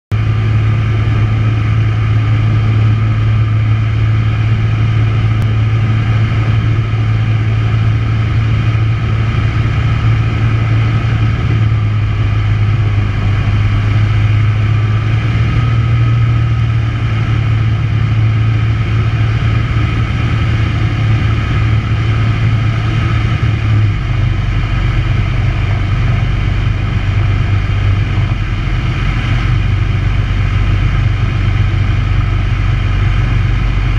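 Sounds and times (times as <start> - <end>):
light aircraft engine drone: 0.1 - 33.9.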